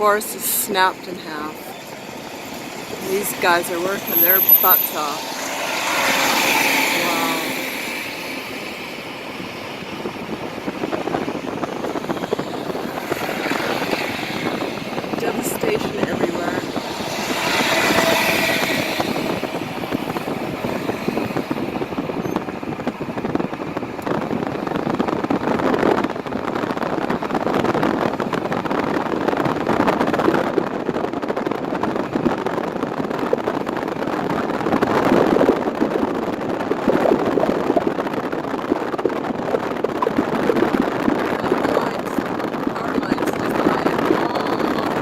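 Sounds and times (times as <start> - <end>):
car road and tyre noise: 0.0 - 45.0.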